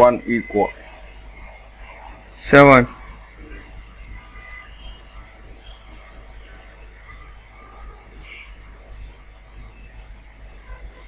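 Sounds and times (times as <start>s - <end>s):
faint background hum and hiss: 0.0s - 11.0s
thin high-pitched whine: 0.0s - 11.0s.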